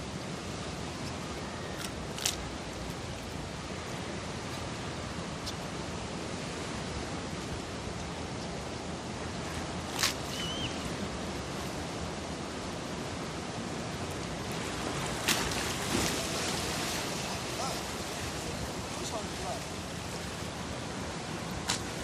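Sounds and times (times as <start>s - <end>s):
sea surf washing on a beach: 0.0s - 22.0s.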